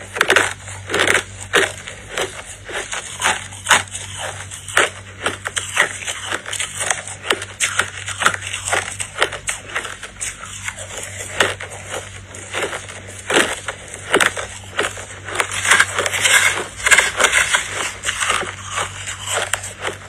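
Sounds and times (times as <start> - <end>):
chewing crushed ice: 0.0 - 20.0.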